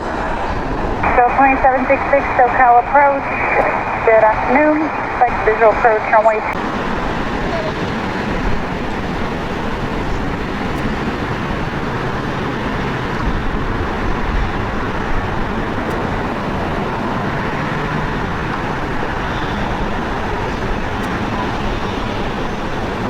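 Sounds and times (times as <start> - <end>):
distant jet engines: 0.0 - 23.0
road traffic roar: 0.0 - 23.0.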